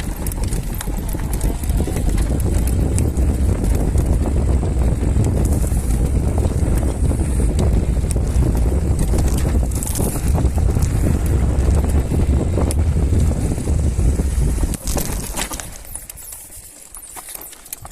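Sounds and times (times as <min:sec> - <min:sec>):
wind buffeting microphone: 0:00.0 - 0:16.7
e-bike rattling over rough trail: 0:00.0 - 0:17.9.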